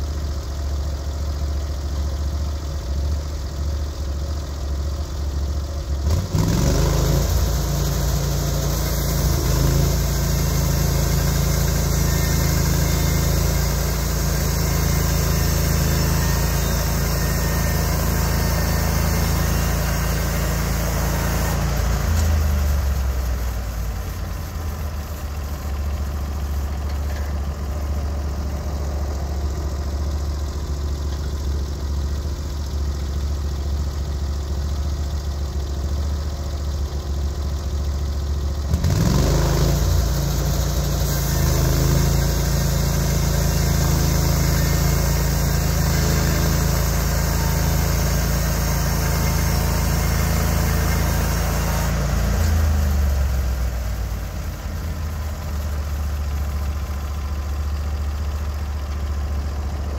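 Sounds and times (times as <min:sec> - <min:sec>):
sawmill gas engine running: 0:00.0 - 0:59.9.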